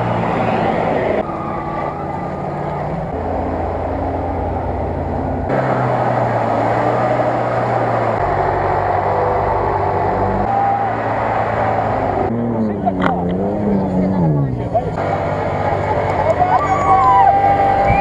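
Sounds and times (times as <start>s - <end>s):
off-road engines under load: 0.0s - 18.0s.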